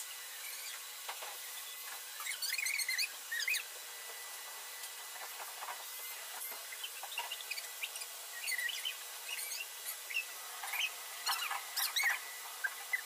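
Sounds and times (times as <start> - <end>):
shop vac running: 0.0 - 13.0.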